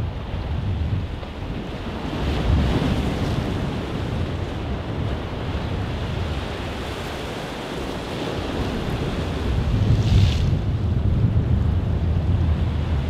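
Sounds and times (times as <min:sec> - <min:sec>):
lake waves washing in: 0:00.0 - 0:13.0
wind rumbling on microphone: 0:00.0 - 0:13.0.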